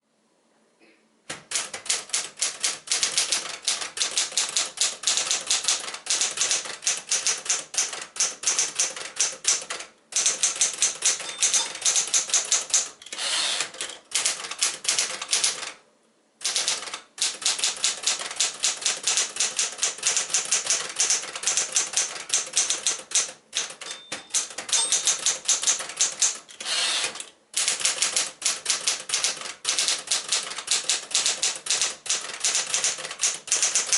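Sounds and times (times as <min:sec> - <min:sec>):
manual typewriter typing: 0:01.3 - 0:15.8, 0:16.4 - 0:33.9.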